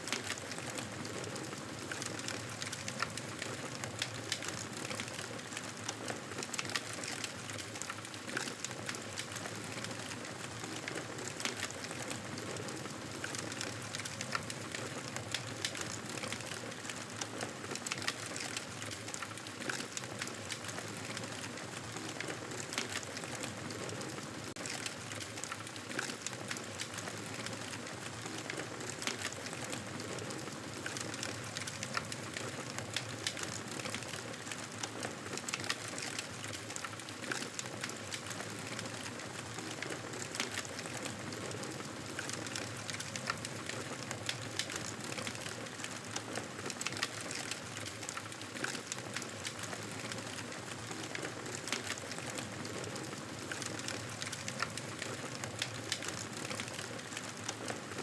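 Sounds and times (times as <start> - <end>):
campfire crackling and popping: 0.1 - 57.8.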